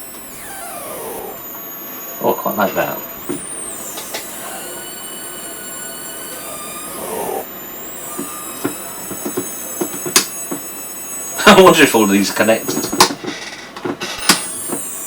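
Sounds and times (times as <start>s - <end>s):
electronic crackles and clicks: 0.0s - 13.2s, 14.2s - 15.0s
rough electronic burst: 0.0s - 13.2s
high-pitched electronic whining tones: 0.0s - 13.3s, 14.2s - 15.0s.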